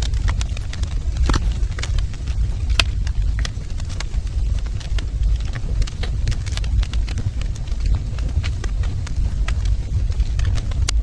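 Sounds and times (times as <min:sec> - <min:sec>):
low rumble of burning fire: 0:00.0 - 0:11.0
wood fire crackling: 0:00.0 - 0:11.0.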